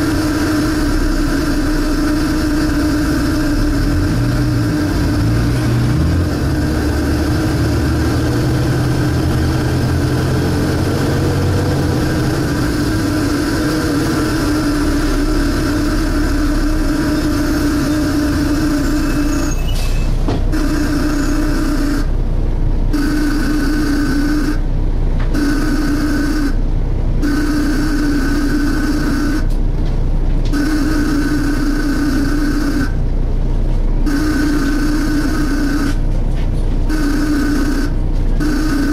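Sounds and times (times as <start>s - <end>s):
bus engine suction noise: 0.0s - 38.9s.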